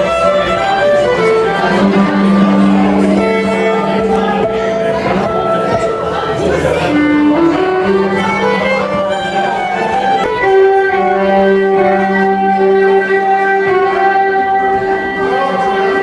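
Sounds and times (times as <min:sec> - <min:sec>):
fiddle playing bowed notes: 0:00.0 - 0:16.0
plucked string accompaniment: 0:00.0 - 0:16.0.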